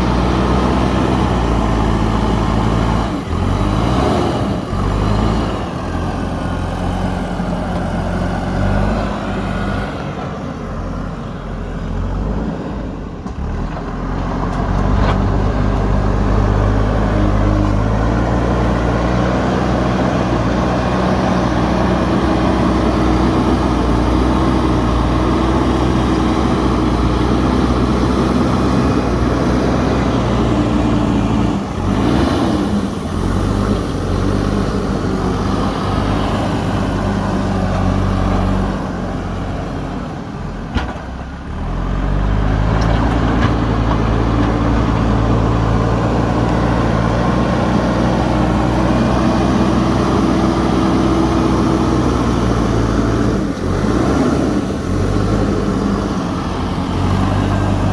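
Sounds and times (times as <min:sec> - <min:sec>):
backhoe diesel engine running: 0:00.0 - 0:57.9.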